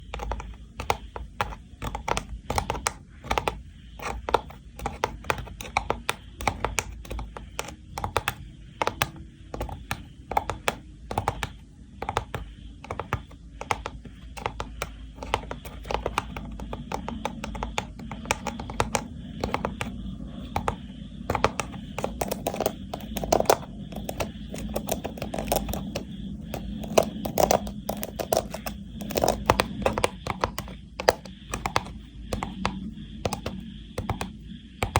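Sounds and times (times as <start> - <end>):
tapping on woven cane box: 0.1 - 34.9.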